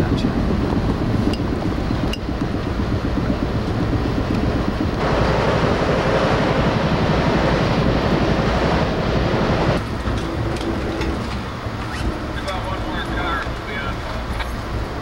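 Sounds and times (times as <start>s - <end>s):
train rumbling from inside coach: 0.0s - 15.0s.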